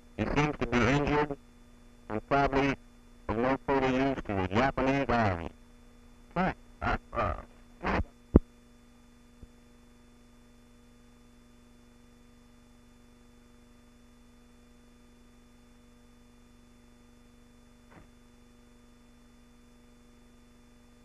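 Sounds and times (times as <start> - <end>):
film soundtrack hum and hiss: 0.0 - 21.0.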